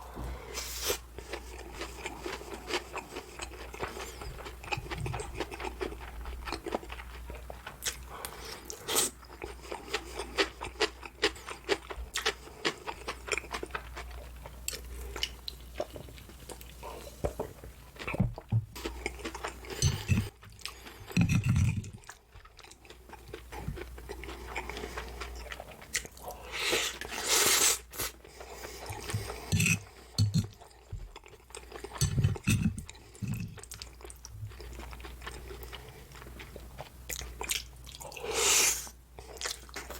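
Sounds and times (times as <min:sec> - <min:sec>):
chewing crunchy food: 0:01.2 - 0:38.4, 0:39.2 - 0:39.9.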